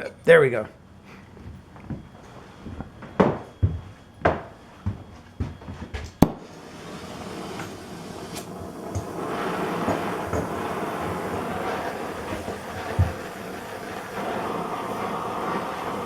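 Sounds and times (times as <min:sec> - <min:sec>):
gas torch flame hissing: 0:01.0 - 0:16.0.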